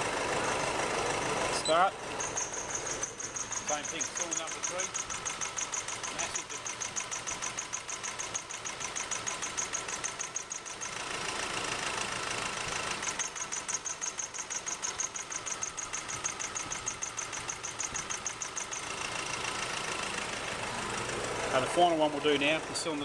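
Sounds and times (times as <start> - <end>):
diesel engine idling roughly: 0.0 - 23.0.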